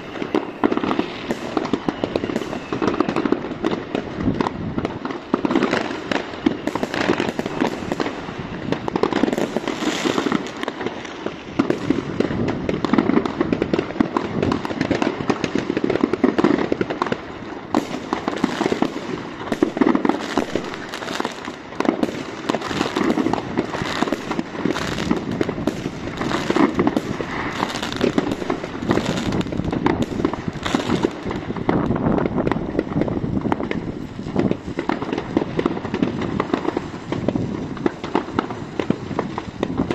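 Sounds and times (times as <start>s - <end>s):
firecrackers banging: 0.0s - 39.9s
rockets bursting: 0.0s - 39.9s.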